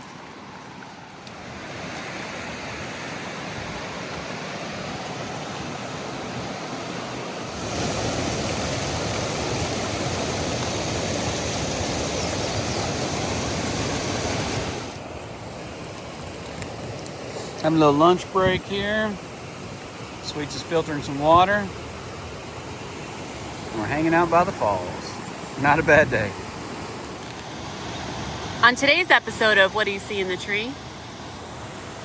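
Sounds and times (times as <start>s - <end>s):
waterfall roaring: 1.4s - 32.0s.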